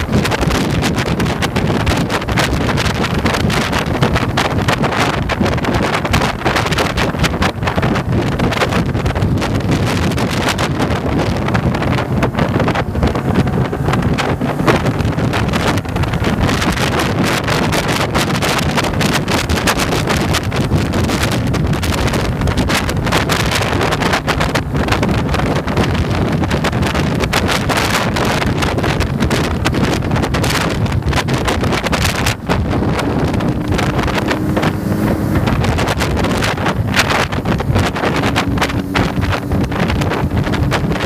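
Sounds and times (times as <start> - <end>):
motorcycle engine droning: 0.0 - 41.0
wind buffeting microphone: 0.0 - 41.0.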